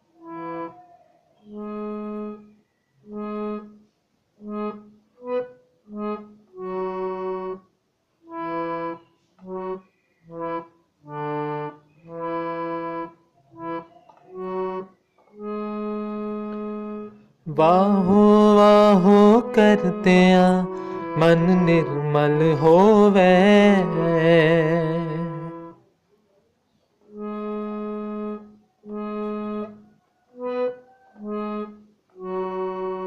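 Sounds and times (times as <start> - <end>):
harmonium melody: 0.0 - 0.8, 1.4 - 25.8, 27.0 - 33.0.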